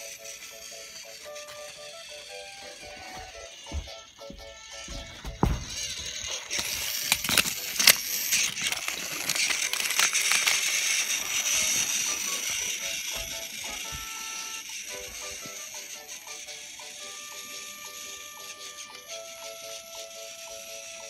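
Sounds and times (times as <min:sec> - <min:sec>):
faint music: 0:00.0 - 0:21.0
toy train rattling on plastic track: 0:00.0 - 0:21.0.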